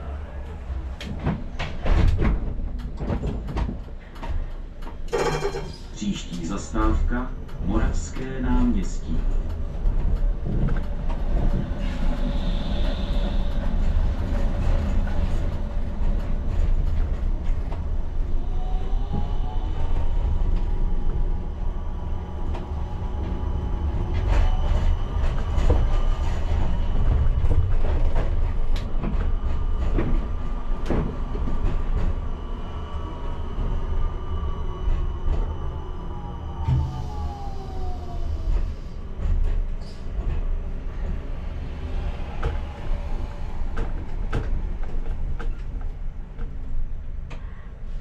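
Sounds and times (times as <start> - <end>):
tram drive whine: 0.0 - 47.3
tram rumbling on track: 0.0 - 48.0.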